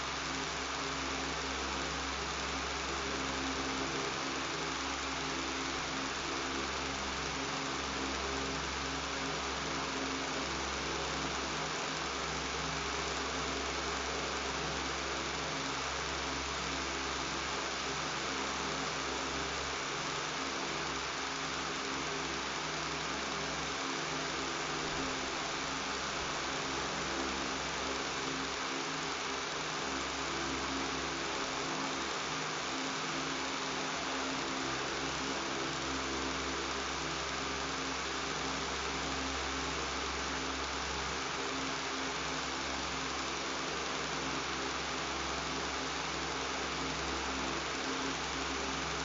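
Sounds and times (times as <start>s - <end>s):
electric fan running: 0.0s - 49.0s.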